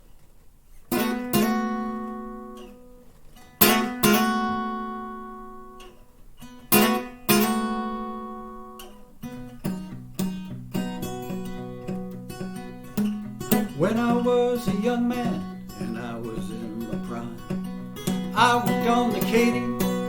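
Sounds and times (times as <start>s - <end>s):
acoustic guitar playing: 0.9s - 20.0s.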